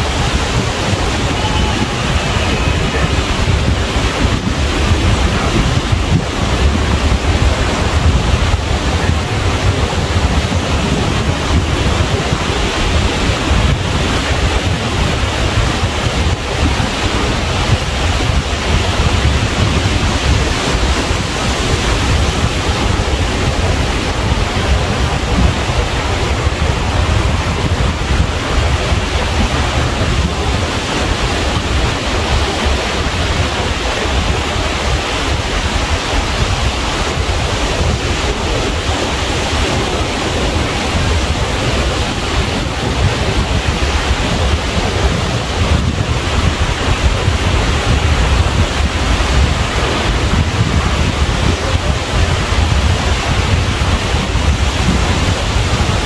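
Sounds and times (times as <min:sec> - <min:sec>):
ocean surf washing ashore: 0:00.0 - 0:56.0
wind buffeting microphone: 0:00.0 - 0:56.0.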